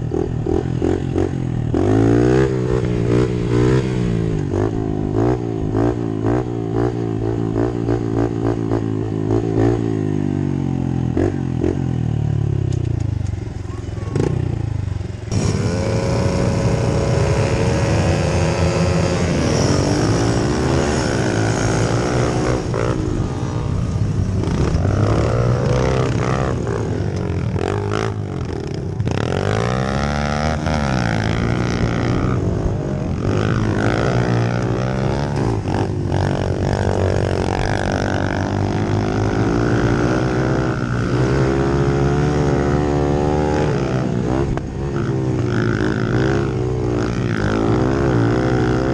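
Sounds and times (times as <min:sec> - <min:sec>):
small motorcycle engines revving: 0:00.0 - 0:48.9.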